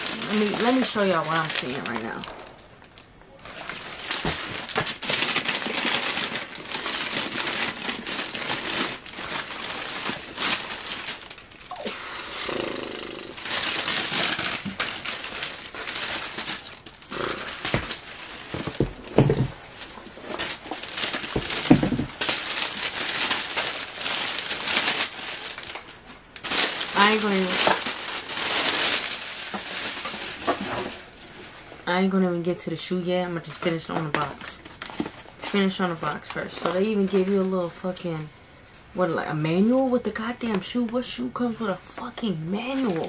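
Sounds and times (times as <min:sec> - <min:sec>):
packing paper rustling: 0:00.0 - 0:12.2, 0:13.3 - 0:31.7, 0:33.5 - 0:37.9, 0:42.6 - 0:43.0.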